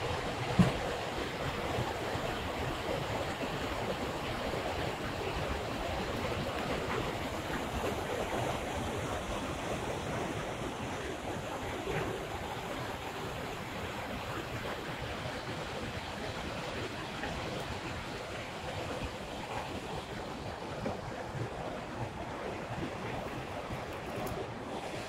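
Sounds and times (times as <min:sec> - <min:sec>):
small waterfall rushing: 0:00.0 - 0:25.0.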